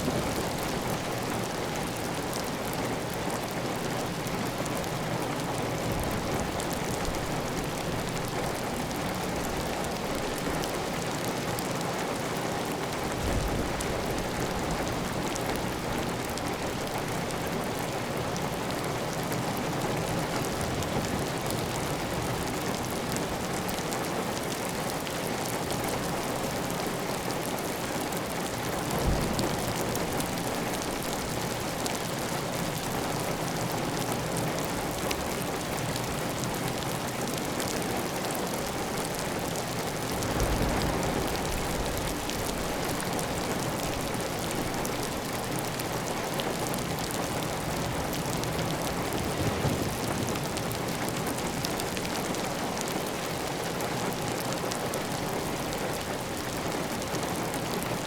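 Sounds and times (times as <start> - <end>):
heavy rain on a tiled roof: 0.0 - 58.0.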